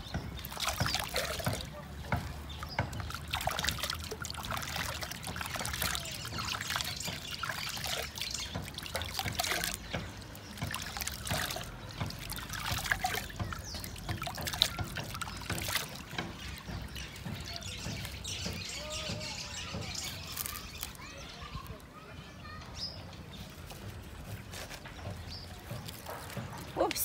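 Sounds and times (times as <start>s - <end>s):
water splashing and trickling: 0.0s - 27.0s.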